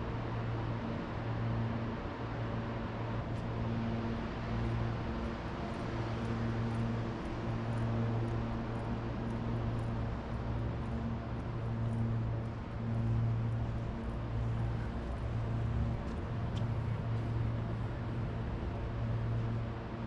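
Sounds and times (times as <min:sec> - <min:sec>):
city noise: 0:00.0 - 0:20.0.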